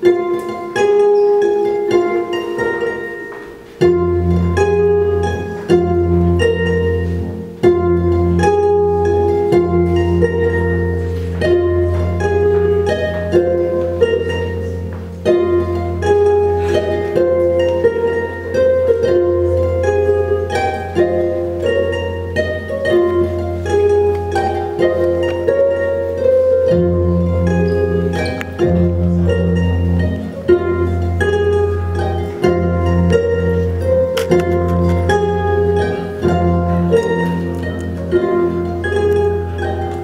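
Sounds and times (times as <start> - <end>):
plucked harp notes: 0.0 - 40.0.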